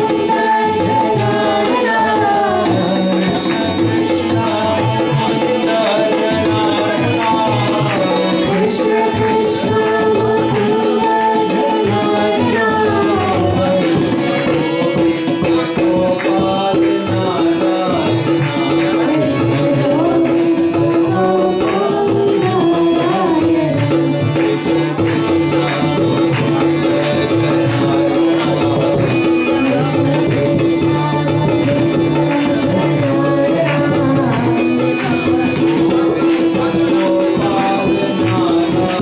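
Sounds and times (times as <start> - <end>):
hand percussion: 0.0 - 39.0
harmonium drone: 0.0 - 39.0
man singing: 0.0 - 39.0.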